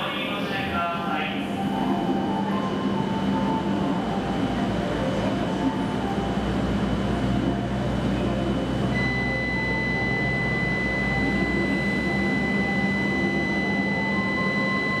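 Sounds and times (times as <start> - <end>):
electrical hum: 0.0 - 15.0
low train rumble: 0.0 - 15.0
thin high whine: 0.0 - 15.0.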